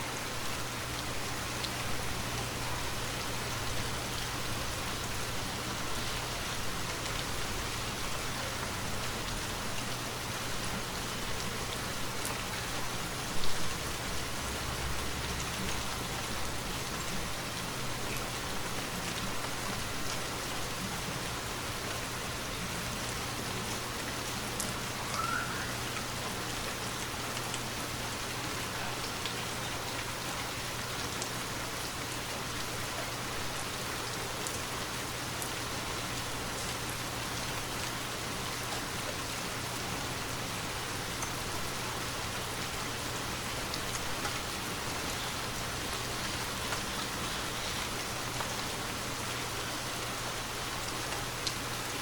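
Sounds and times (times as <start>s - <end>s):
rain hissing: 0.0s - 52.0s.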